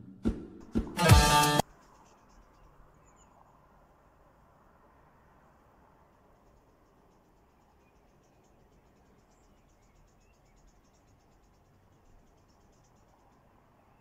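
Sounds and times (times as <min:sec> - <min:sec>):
faint insect trill: 0:01.6 - 0:14.0.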